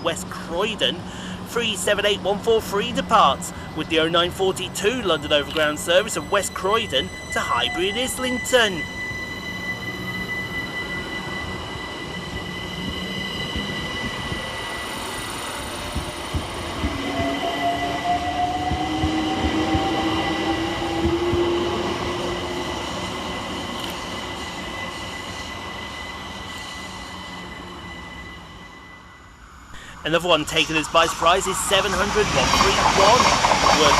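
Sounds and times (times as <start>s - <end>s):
electric train high whine: 0.0s - 33.9s
rising traction motor whine: 0.0s - 33.9s.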